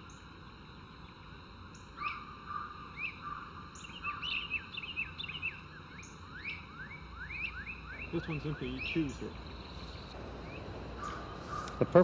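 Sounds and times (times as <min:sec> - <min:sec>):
faint steady hiss: 0:00.0 - 0:12.0
birds chirping: 0:00.9 - 0:12.0.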